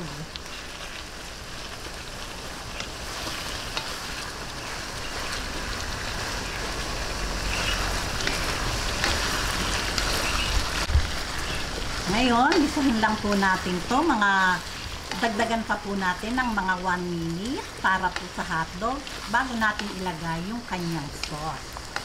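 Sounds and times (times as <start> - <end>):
meat sizzling in a wok: 0.0 - 22.0.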